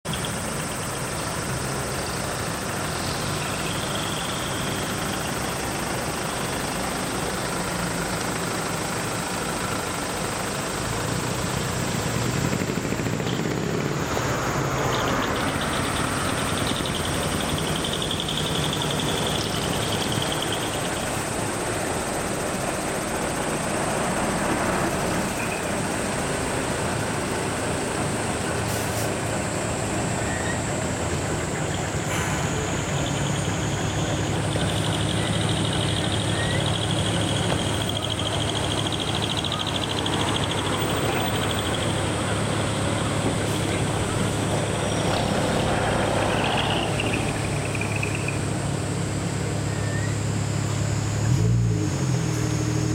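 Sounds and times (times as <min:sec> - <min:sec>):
truck diesel engine running: 0:00.1 - 0:52.9.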